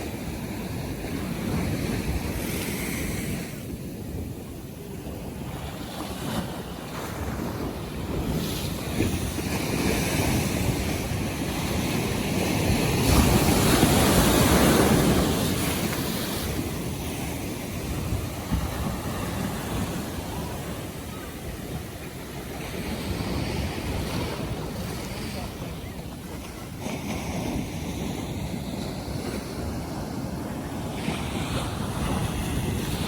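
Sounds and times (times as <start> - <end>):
waves washing in: 0.0 - 33.0
wind on microphone: 0.0 - 33.0.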